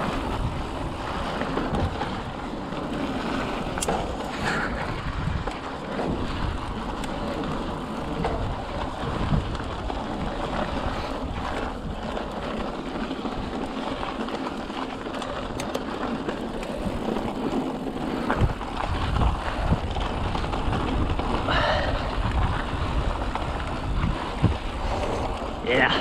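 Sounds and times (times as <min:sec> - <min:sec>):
bike tyres on dirt trail: 0:00.0 - 0:26.0.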